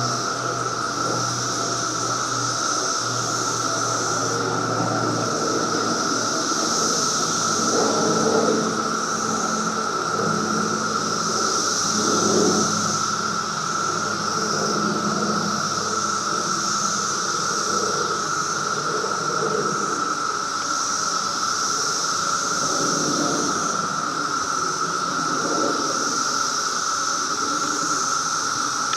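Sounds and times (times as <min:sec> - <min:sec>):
cicadas droning: 0:00.0 - 0:28.9.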